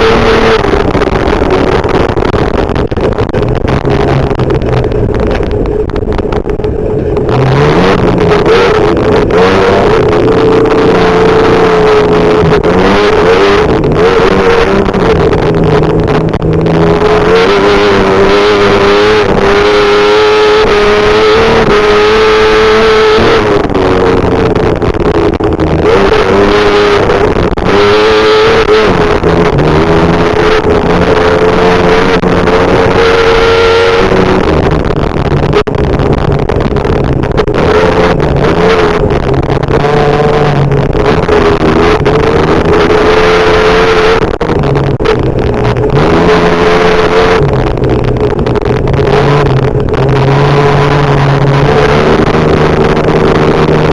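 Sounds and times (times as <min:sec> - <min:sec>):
truck engine revving high: 0:00.0 - 0:53.9.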